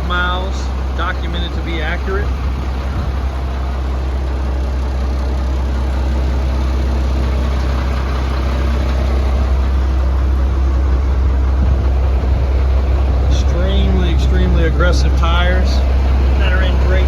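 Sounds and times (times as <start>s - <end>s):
fire truck diesel engine idling: 0.0s - 17.0s.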